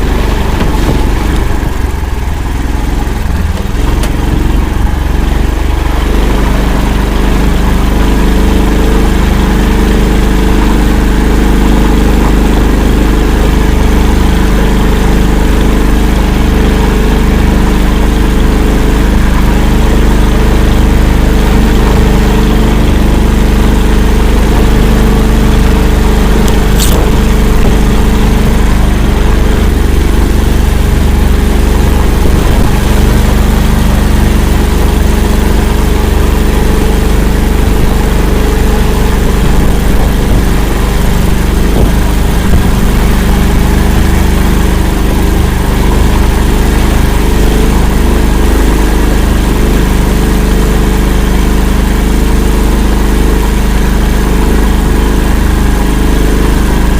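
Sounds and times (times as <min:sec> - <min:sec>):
vehicle engine droning: 0:00.0 - 0:56.9.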